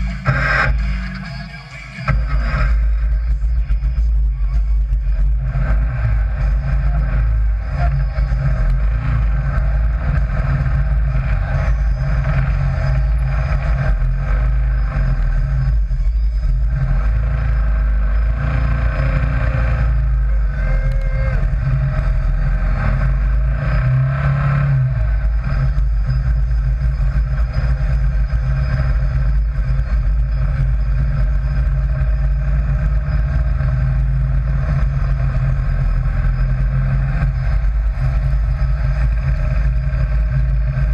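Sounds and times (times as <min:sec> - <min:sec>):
vehicle engine droning: 0:00.0 - 0:40.9.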